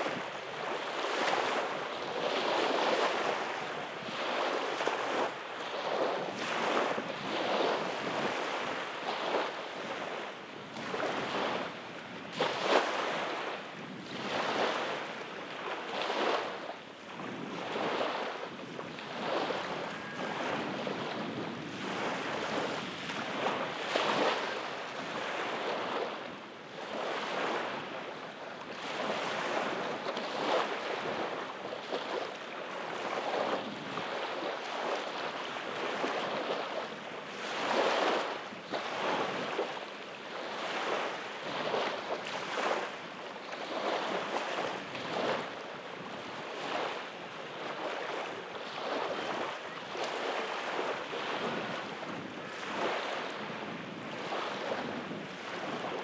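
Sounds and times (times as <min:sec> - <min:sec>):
small waves lapping on shore: 0:00.0 - 0:56.0.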